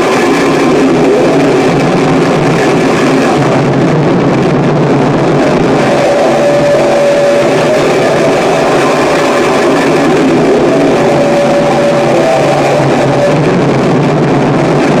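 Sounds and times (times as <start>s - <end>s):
distorted noise music: 0.0s - 15.0s
thin whine: 0.0s - 15.0s.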